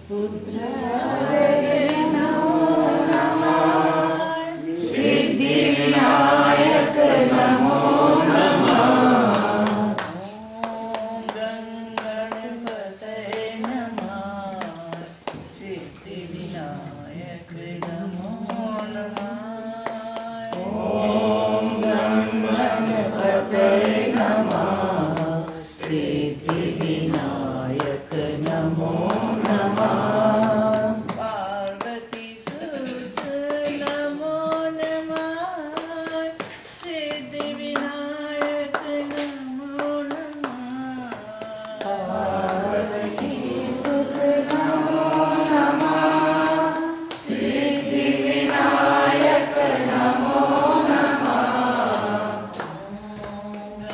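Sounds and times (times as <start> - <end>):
voices singing devotional song: 0.0 - 53.9
hand-clapping: 1.1 - 15.9, 17.5 - 53.9.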